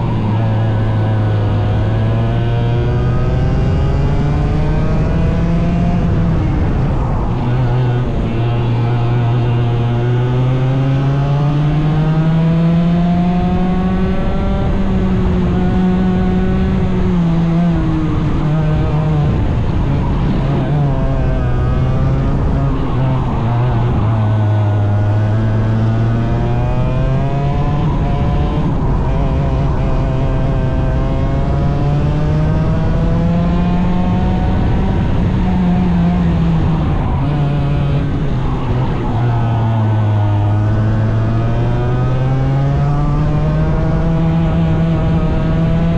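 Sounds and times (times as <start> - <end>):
small racing engine accelerating: 0.0 - 45.9.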